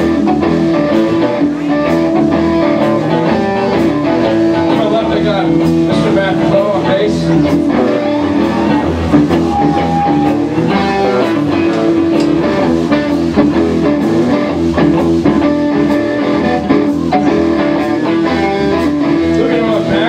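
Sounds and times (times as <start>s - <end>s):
bass line: 0.0s - 20.0s
drum kit: 0.0s - 20.0s
electric guitars: 0.0s - 20.0s.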